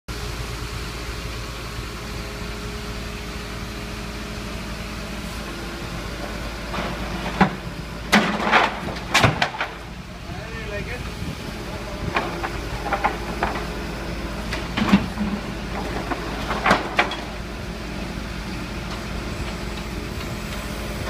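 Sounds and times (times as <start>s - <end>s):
hydraulic crane humming: 0.2s - 21.0s.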